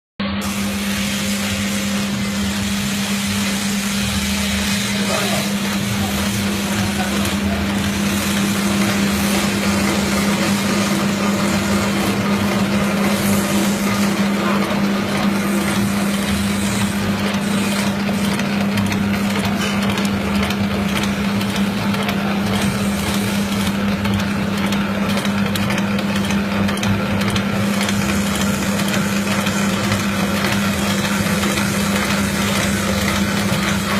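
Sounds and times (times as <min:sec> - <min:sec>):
machine motor hum: 0:00.2 - 0:33.9
mechanical whirring: 0:00.2 - 0:33.9.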